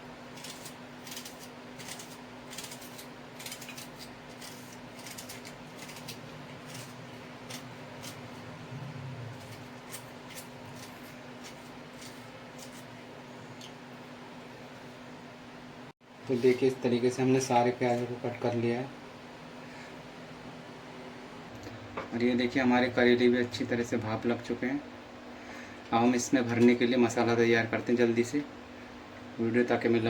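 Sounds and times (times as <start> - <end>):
faint hum: 0.0 - 30.0.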